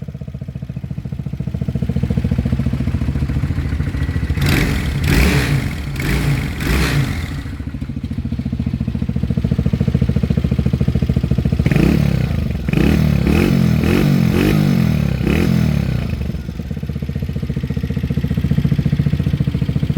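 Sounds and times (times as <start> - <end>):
motorcycle engine idling: 0.0 - 19.9
motorcycle engine revving: 0.0 - 19.9.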